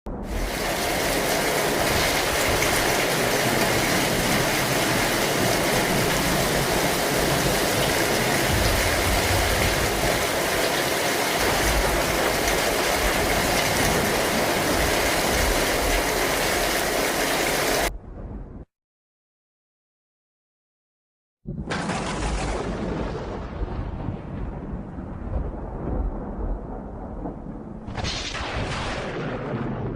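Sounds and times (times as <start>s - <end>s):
heavy rain falling: 0.1s - 17.9s, 21.7s - 29.9s.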